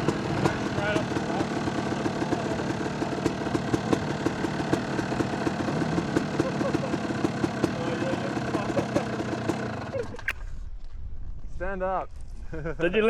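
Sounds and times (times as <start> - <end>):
dirt bike engine idling: 0.0 - 10.7.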